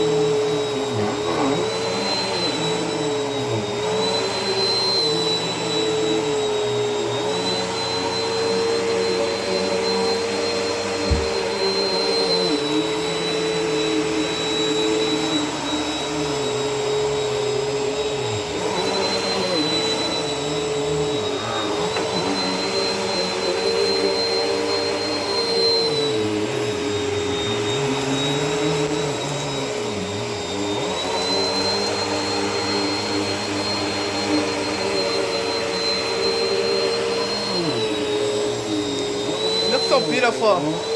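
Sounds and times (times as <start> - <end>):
vacuum cleaner running on carpet: 0.0 - 40.9.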